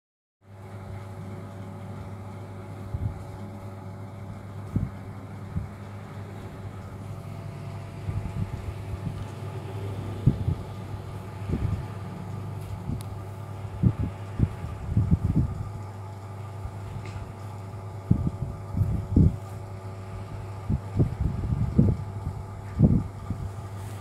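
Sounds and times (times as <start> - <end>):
steady low hum: 0.4 - 24.0.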